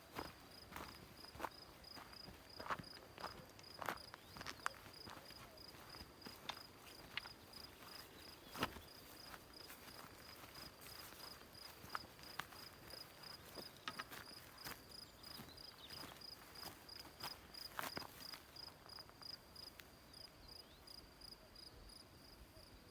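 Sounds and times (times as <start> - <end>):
cricket chirping: 0.2 - 22.9.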